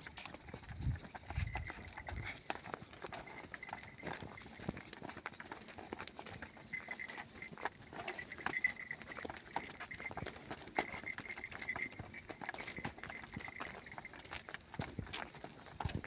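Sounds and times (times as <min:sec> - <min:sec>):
cattle hooves on ground: 0:00.0 - 0:16.0.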